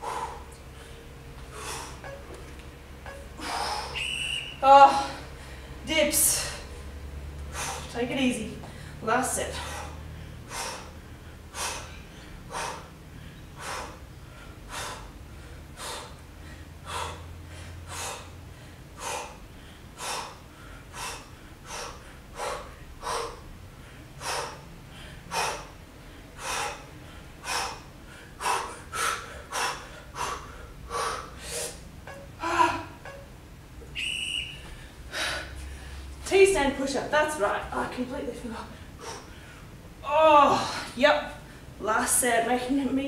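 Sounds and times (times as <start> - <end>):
woman breathing hard: 0.0 - 7.9, 8.6 - 33.2, 33.8 - 36.2, 38.7 - 41.8.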